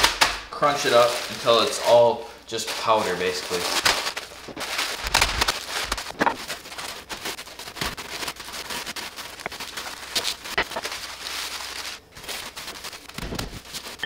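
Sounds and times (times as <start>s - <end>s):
cereal crunching in plastic bag: 0.6s - 14.0s.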